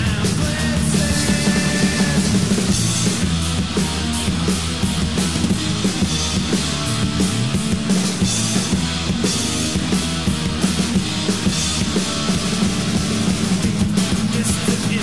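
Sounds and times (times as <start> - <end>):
bass guitar: 0.0 - 15.0
distorted electric guitar: 0.0 - 15.0
drum kit with cymbal hits: 0.0 - 15.0.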